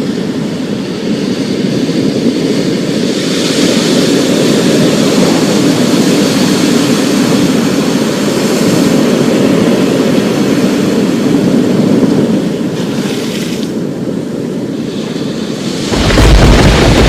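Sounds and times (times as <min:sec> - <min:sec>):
heavy rainstorm roar: 0:00.0 - 0:12.8, 0:13.7 - 0:17.0.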